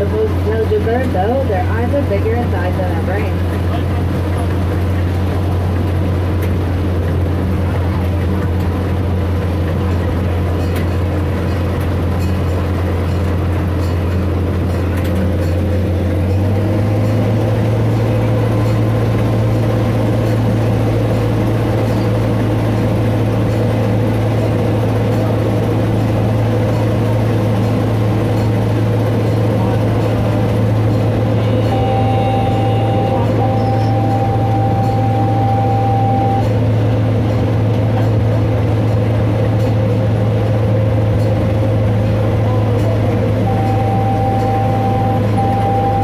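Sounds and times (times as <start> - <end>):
miniature train engine humming: 0.0 - 46.0.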